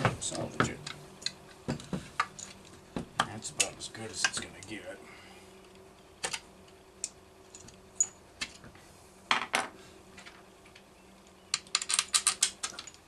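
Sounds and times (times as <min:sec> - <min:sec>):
small parts on metal workbench: 0:00.0 - 0:13.0.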